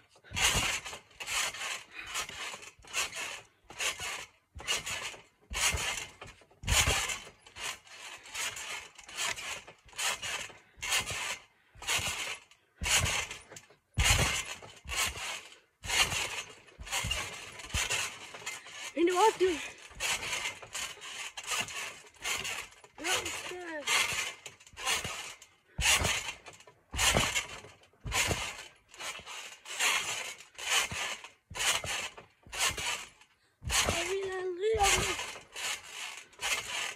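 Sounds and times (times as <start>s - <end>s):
rhythmic rasping scrapes: 0.2s - 36.9s.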